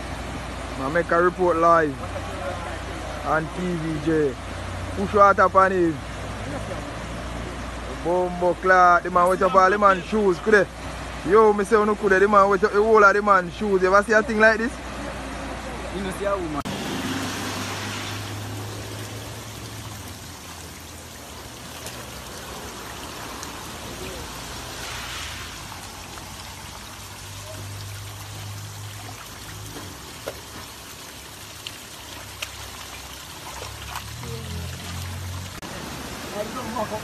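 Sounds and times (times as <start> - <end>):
floodwater rushing over debris: 0.0 - 37.0.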